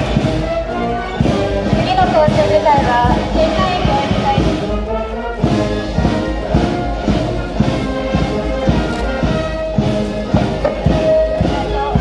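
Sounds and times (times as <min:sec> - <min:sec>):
brass tones: 0:00.0 - 0:12.0
steady drum beat: 0:00.0 - 0:12.0.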